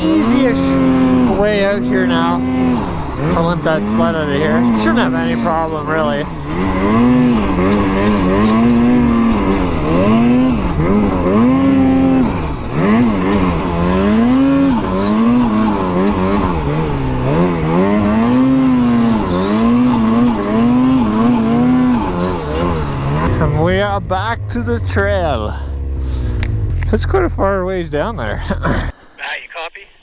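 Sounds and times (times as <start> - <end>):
snowmobile engine revving: 0.0 - 29.7.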